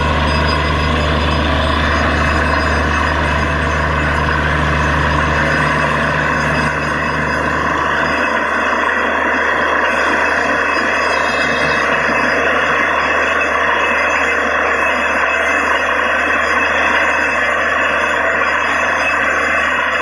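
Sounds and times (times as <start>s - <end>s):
drilling rig engine drone: 0.0s - 20.0s.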